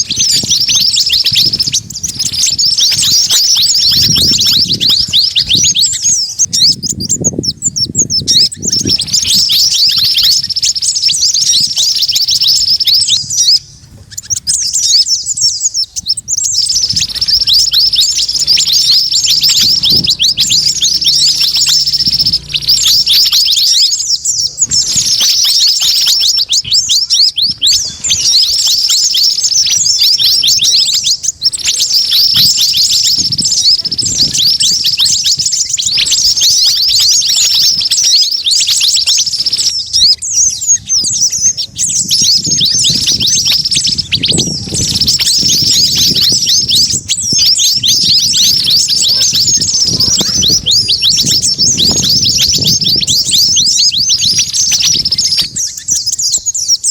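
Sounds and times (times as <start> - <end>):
songbird flock chirping: 0.0 - 56.9.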